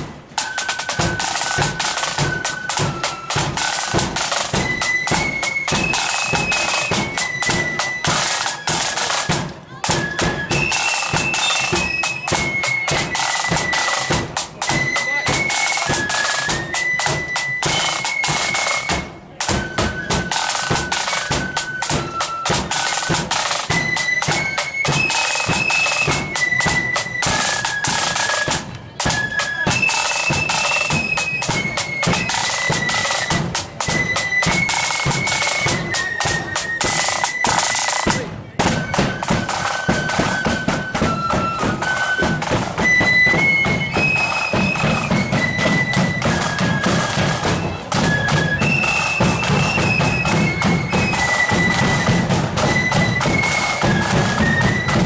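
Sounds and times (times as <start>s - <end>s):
flutes playing shrill melody: 0.0s - 55.0s
snare drums: 0.0s - 55.0s.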